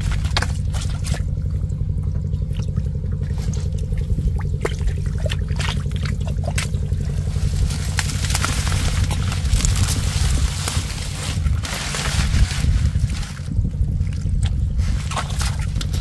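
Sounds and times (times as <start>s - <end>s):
low engine drone: 0.0s - 16.0s
water splashing and trickling: 0.0s - 16.0s.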